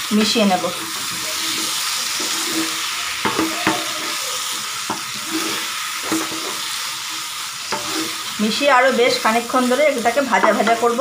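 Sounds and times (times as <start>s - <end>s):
food sizzling in oil: 0.0s - 11.0s
spatula knocking and scraping pan: 0.6s - 9.0s, 10.0s - 11.0s.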